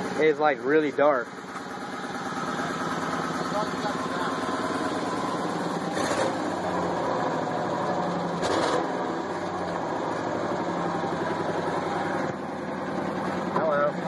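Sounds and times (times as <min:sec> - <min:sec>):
misfiring engine running: 0:00.0 - 0:14.0.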